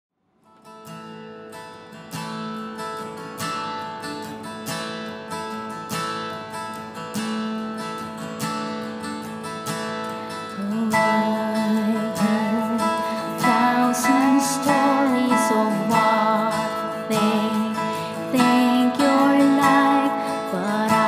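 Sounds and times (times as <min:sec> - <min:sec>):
acoustic guitar strumming: 0:00.4 - 0:21.0.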